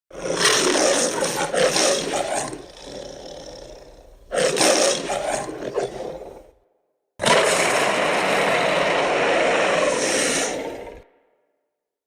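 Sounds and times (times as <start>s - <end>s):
dinosaur roar: 0.1s - 6.6s, 7.2s - 11.2s.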